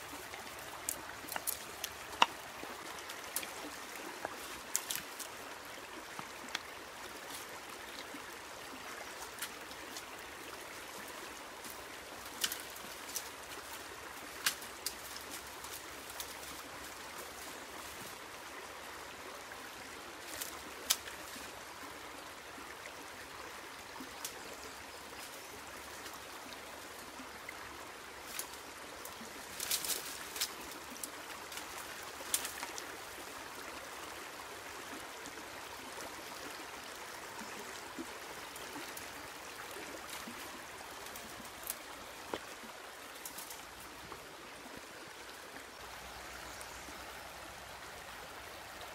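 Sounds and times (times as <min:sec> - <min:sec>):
creek flowing over stones: 0:00.0 - 0:48.9.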